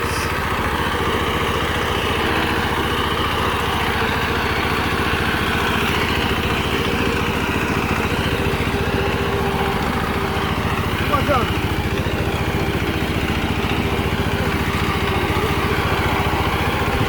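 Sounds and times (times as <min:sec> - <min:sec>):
reaper engine chugging: 0:00.0 - 0:17.0.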